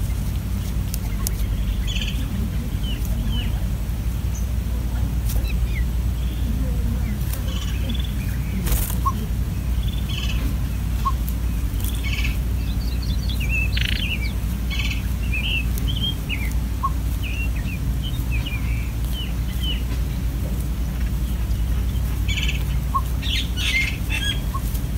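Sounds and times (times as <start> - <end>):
buzzy pulsing calls: 0.0 - 24.9
nestlings chirping: 0.0 - 24.9
steady low rumble: 0.0 - 24.9.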